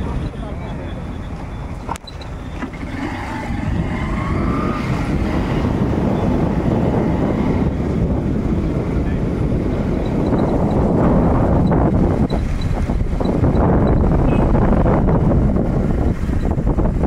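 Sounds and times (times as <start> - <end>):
vehicle road and engine rumble: 0.0 - 17.0
wind buffeting microphone: 0.0 - 17.0.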